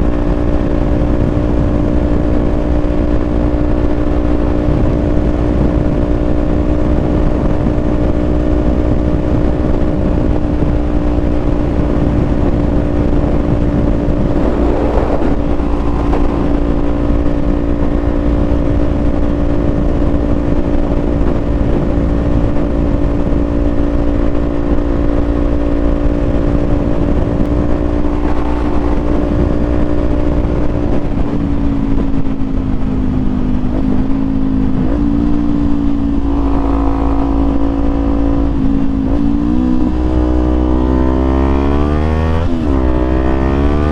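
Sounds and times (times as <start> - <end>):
motorcycle engine cruising: 0.0 - 43.9
wind rush: 0.0 - 43.9.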